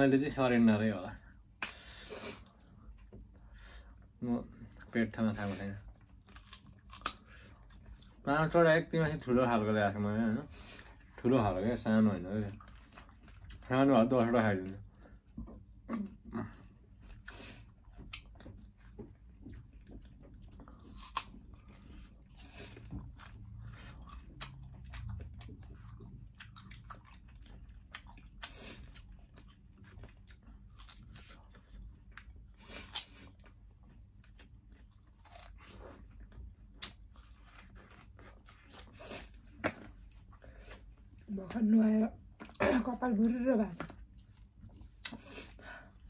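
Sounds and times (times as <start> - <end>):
people chewing: 1.2 - 8.6, 10.2 - 41.3, 42.2 - 46.0.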